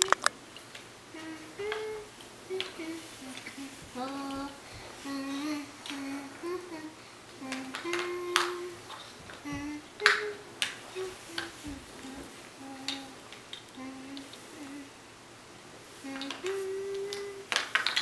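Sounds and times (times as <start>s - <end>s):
person humming: 0.0s - 0.3s, 1.1s - 15.0s, 16.0s - 17.6s.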